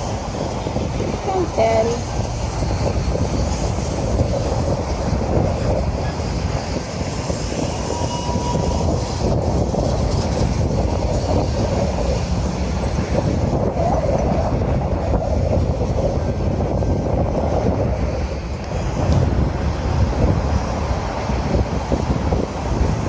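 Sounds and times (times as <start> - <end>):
moving vehicle rumble: 0.0 - 23.0.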